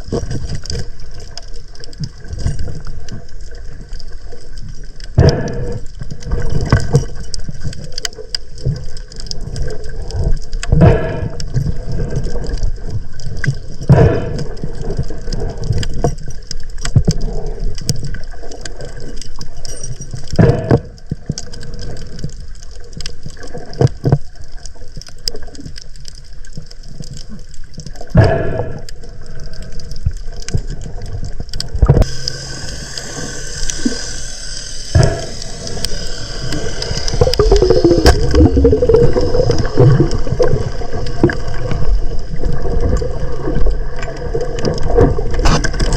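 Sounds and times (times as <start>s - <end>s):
water sloshing and gurgling: 0.0s - 45.9s.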